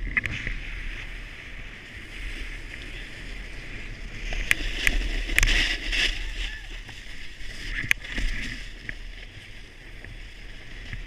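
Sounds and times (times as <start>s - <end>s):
snowboard sliding on snow: 0.0s - 11.0s
wind on microphone: 0.0s - 11.0s.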